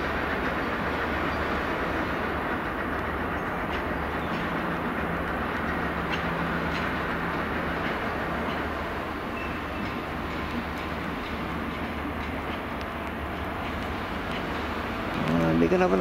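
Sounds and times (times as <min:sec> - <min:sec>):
faint wheel clacks: 0:02.5 - 0:16.0.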